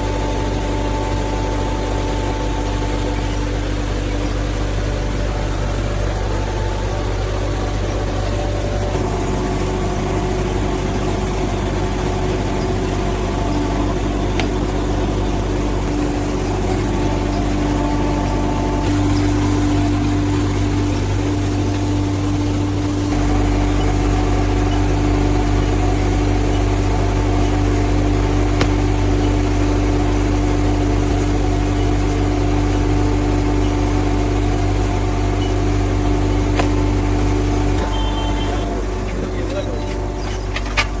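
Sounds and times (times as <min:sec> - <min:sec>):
factory machinery humming: 0:00.0 - 0:41.0.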